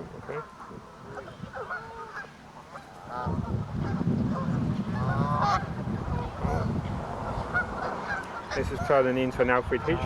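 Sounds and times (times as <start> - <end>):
geese honking: 0.2 - 10.0.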